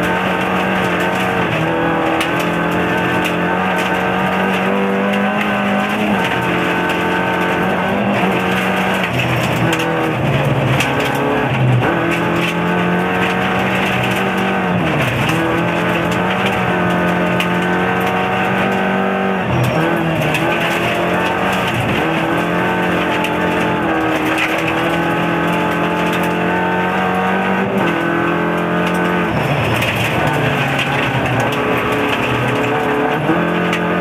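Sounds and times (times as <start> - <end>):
gravel ticking against car: 0.0 - 34.0
rally car engine at high revs: 0.0 - 34.0.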